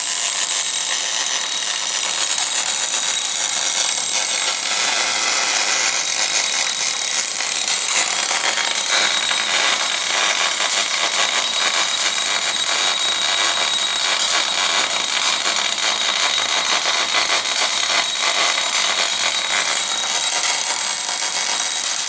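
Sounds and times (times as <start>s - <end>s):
welding arc hissing and crackling: 0.0s - 22.0s.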